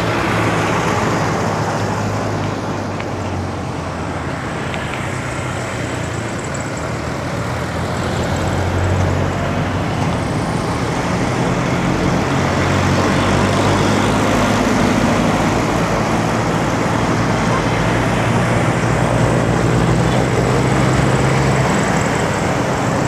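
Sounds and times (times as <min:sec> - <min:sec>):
motor vehicle engines humming: 0:00.0 - 0:23.0
road traffic noise: 0:00.0 - 0:23.0.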